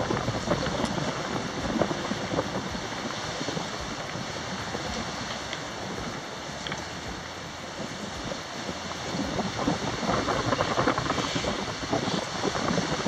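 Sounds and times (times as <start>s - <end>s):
sea water rushing and splashing: 0.0s - 13.0s
wind on microphone: 0.0s - 13.0s.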